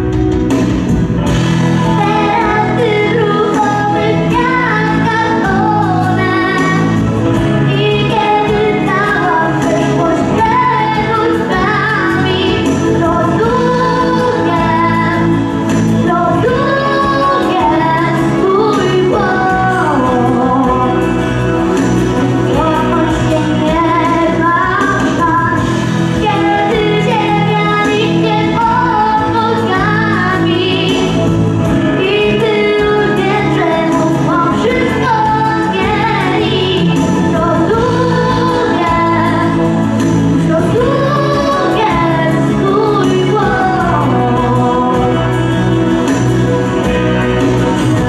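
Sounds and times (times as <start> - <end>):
instrumental accompaniment: 0.0 - 48.0
girl singing into microphone: 1.8 - 46.1.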